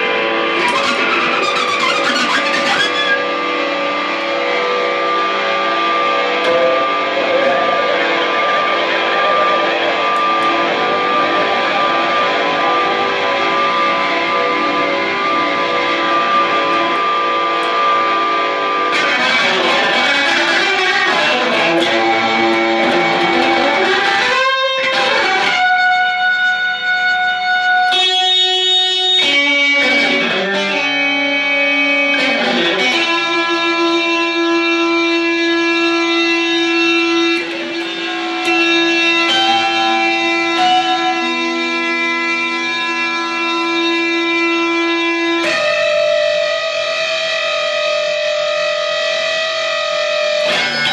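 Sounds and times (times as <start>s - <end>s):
electric guitar sustained notes: 0.0s - 50.9s.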